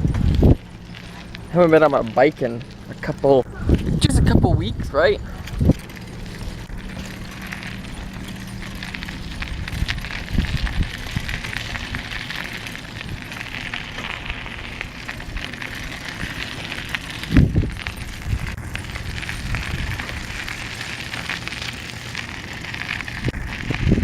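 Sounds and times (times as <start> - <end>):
bicycle rattling over rough ground: 0.0 - 24.0.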